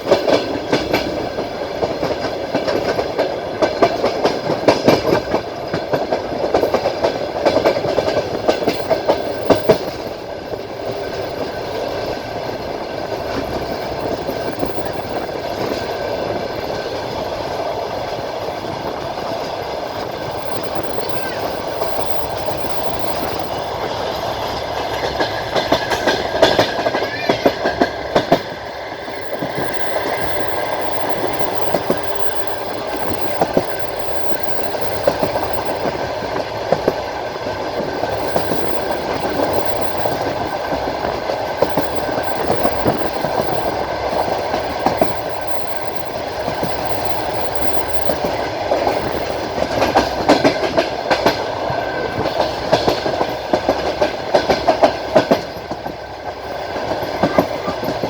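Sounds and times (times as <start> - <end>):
train running rumble: 0.0 - 58.0
train wheels clacking over rail joints: 0.0 - 58.0.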